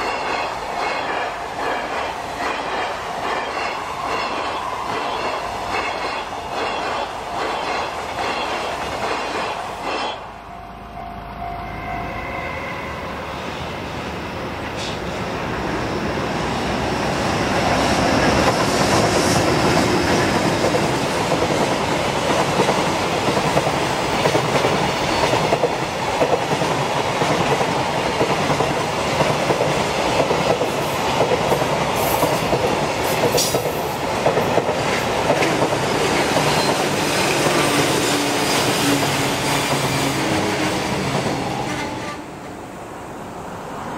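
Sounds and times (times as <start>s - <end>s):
train wheels rumbling on track: 0.0s - 43.9s.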